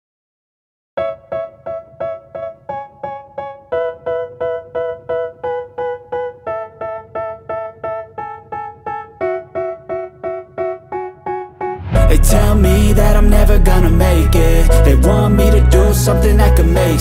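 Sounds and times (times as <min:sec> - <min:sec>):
keyboard repeating chord: 0:01.0 - 0:17.0.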